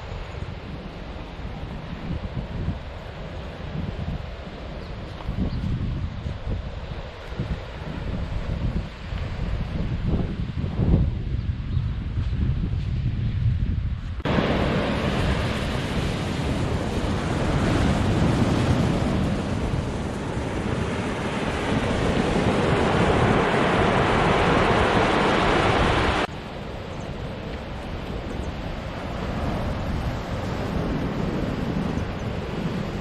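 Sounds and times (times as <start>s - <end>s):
ocean surf washing ashore: 0.0s - 11.0s, 14.2s - 33.0s
wind buffeting microphone: 0.0s - 33.0s.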